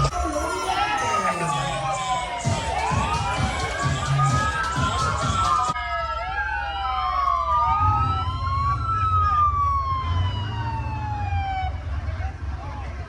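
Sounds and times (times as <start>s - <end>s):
sirens wailing: 0.0s - 13.0s.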